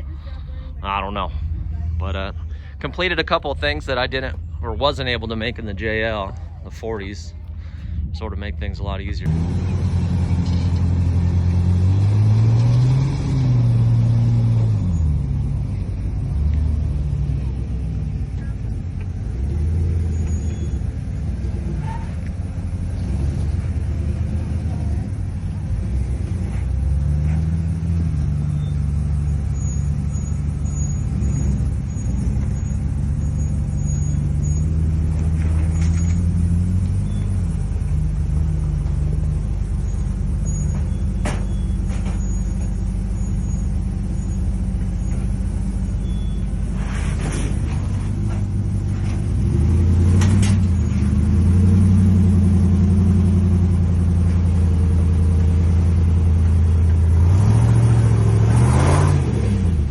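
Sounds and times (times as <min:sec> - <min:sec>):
truck engine running at low speed: 0:00.0 - 0:59.9.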